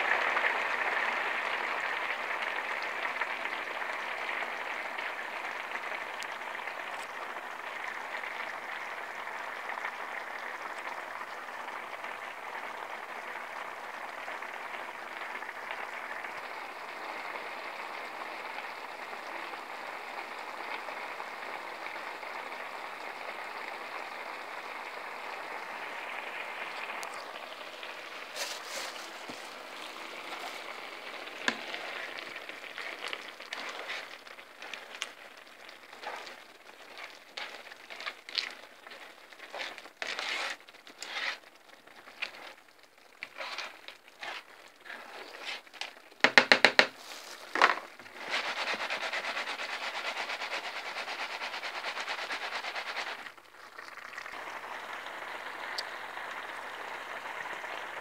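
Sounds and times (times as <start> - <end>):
broth boiling and bubbling: 0.0 - 58.0.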